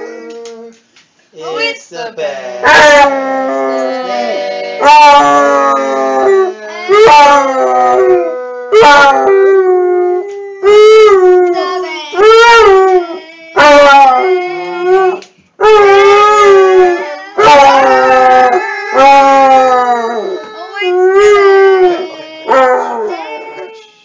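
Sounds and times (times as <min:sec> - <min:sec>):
dog howling: 0:00.0 - 0:00.8, 0:02.6 - 0:23.8.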